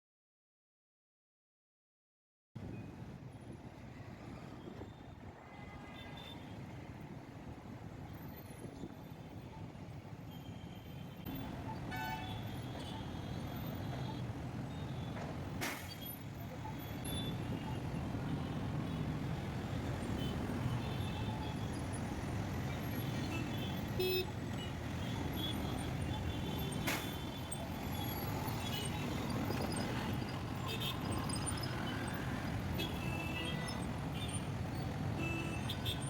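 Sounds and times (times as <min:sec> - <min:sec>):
road traffic: 0:02.6 - 0:36.0.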